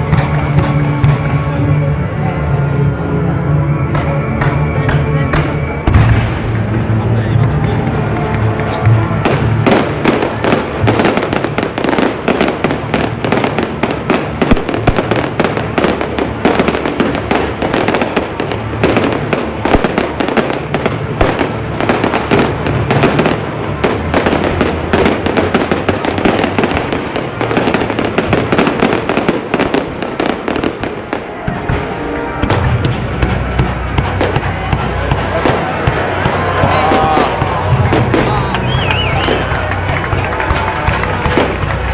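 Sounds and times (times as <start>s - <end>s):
fireworks bangs and crackles: 0.0s - 2.2s, 3.8s - 41.9s.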